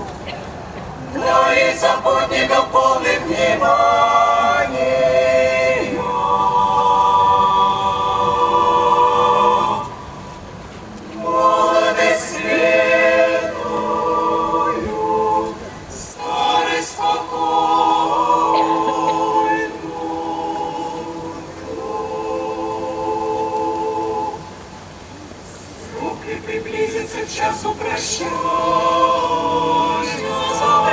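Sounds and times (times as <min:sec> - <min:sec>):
group singing unaccompanied: 0:01.0 - 0:24.8, 0:25.8 - 0:30.9.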